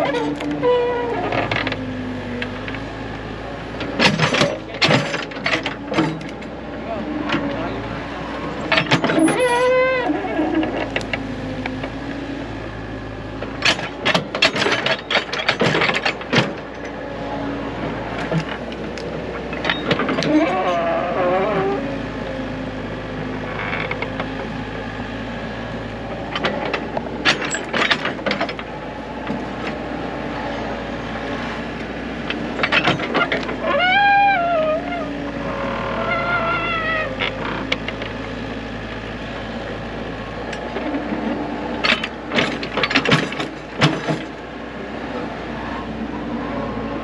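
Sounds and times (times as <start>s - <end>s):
excavator engine running: 0.0s - 47.0s.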